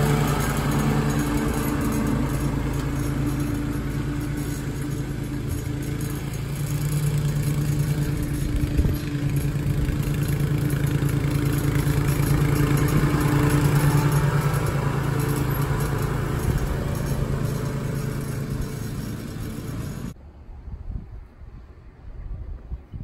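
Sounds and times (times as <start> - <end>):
lawn mower engine running: 0.0 - 20.2.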